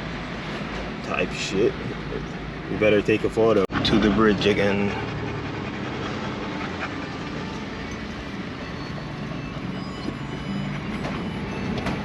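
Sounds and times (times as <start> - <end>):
tyre and road noise: 0.0 - 12.0.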